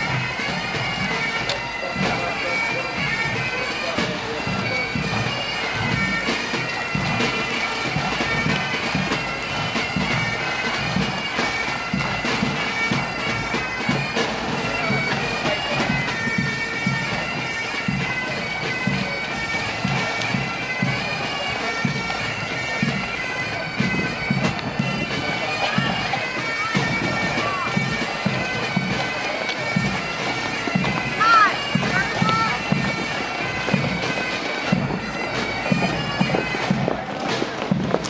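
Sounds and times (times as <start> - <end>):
bagpipes playing a march: 0.0 - 38.0.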